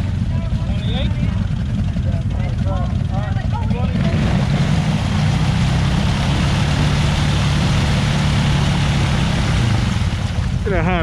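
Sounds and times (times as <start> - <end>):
atv engine straining under load: 0.0 - 11.0.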